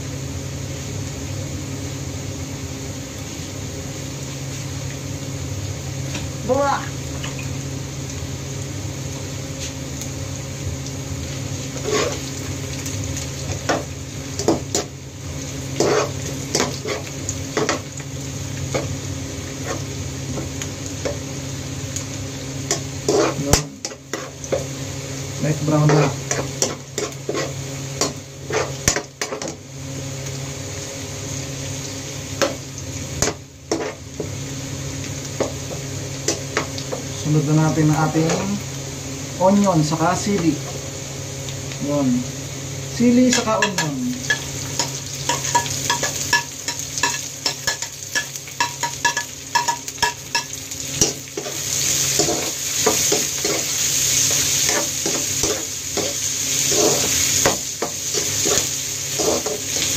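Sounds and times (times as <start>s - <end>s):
garlic sizzling in oil: 0.0s - 59.9s.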